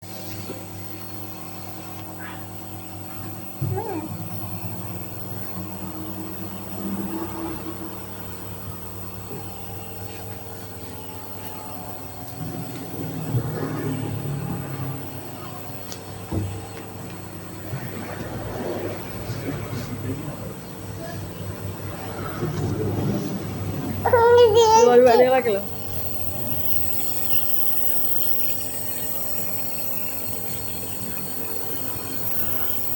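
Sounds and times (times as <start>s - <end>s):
nebulizer compressor humming: 0.0s - 32.9s.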